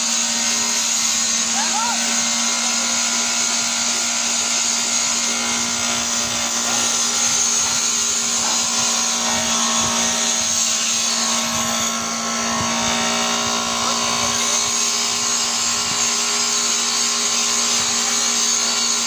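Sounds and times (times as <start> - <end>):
bench grinder humming: 0.0 - 19.0.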